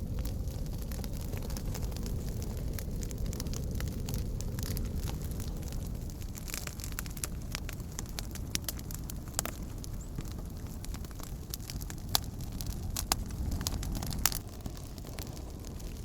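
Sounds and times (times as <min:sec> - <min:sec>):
campfire crackling and popping: 0:00.0 - 0:16.0
steady low rumble: 0:00.0 - 0:16.0.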